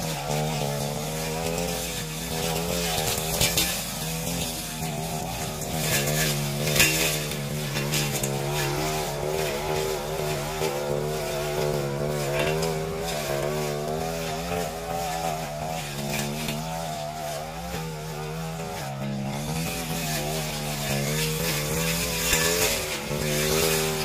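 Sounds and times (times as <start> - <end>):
brush cutter engine cutting grass: 0.0 - 24.0.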